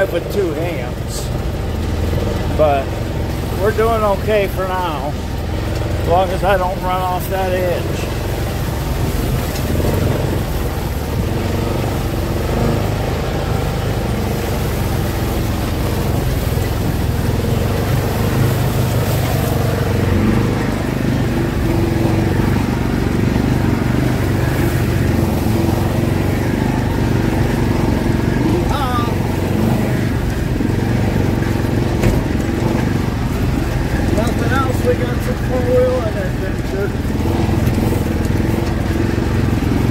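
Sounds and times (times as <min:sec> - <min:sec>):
tyres rolling over snowy dirt: 0:00.0 - 0:39.9
vehicle engine running: 0:00.0 - 0:39.9.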